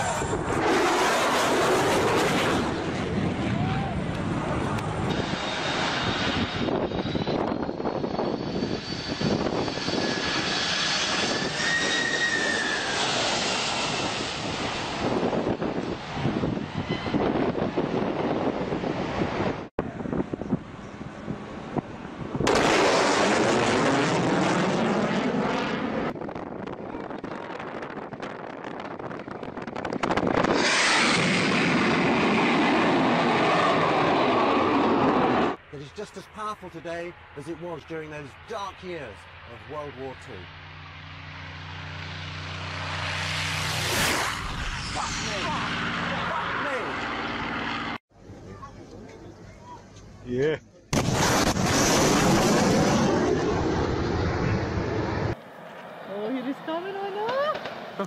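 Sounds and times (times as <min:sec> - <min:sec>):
jet airliner passing overhead: 0:00.0 - 0:49.8, 0:51.0 - 0:58.0.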